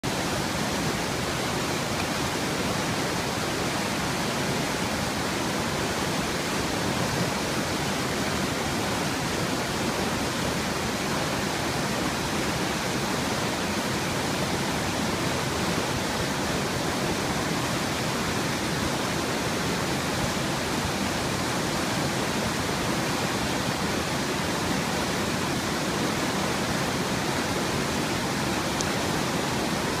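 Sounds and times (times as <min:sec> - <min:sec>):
water rushing over boulders: 0:00.0 - 0:30.0.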